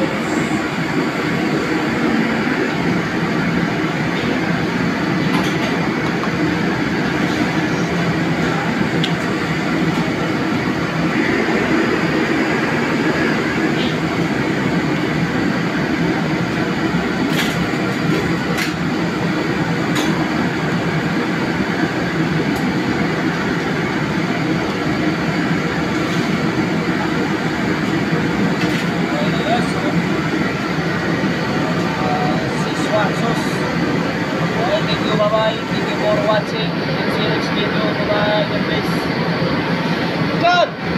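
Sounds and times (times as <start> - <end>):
kitchen range and exhaust hood roar: 0.0 - 40.9.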